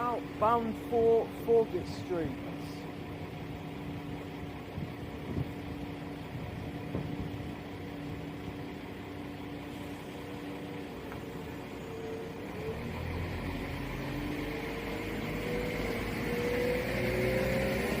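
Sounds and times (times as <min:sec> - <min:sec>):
diesel train engine drone: 0:00.0 - 0:18.0.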